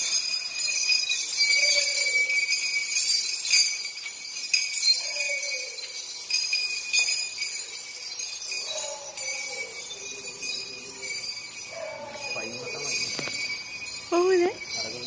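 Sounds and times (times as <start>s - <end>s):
metal chains jingling: 0.0s - 15.0s.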